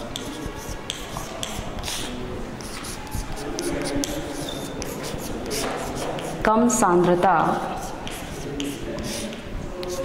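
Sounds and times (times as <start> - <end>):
chalk scratching on a blackboard: 0.0 - 6.5, 7.3 - 10.0.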